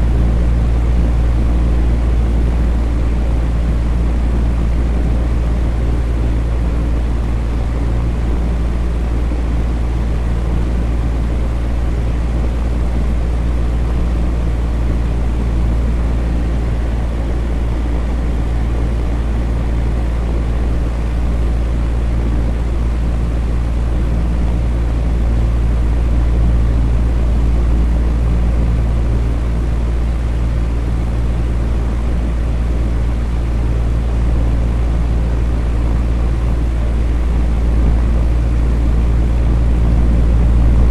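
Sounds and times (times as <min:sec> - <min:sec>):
electric fan running: 0:00.0 - 0:40.9.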